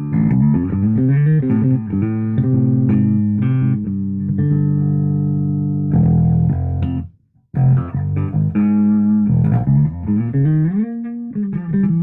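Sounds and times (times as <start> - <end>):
electric bass notes with slides: 0.0 - 12.0.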